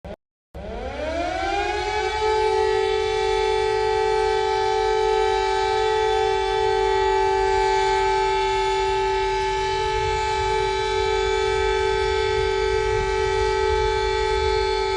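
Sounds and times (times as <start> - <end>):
alarm siren steady pitch: 0.6 - 14.9.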